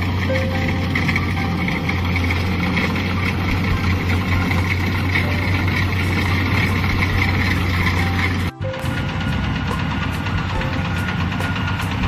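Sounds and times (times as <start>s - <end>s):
combine harvester engine drone: 0.0s - 12.0s
high steady machine whine: 0.0s - 12.0s.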